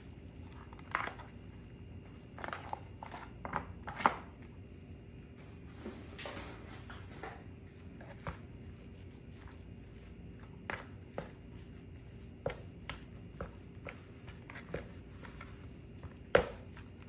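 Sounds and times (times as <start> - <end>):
ground meat being stirred: 0.0 - 5.7, 7.2 - 17.0.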